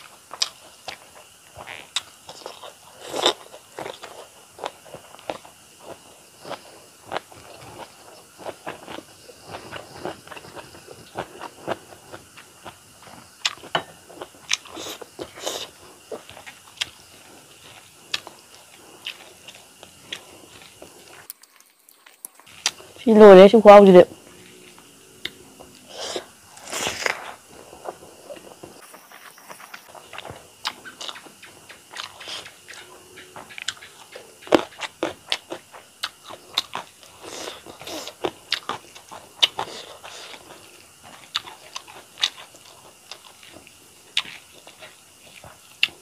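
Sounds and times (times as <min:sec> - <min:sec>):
person chewing with wet crunches: 0:00.0 - 0:23.1, 0:24.2 - 0:46.0.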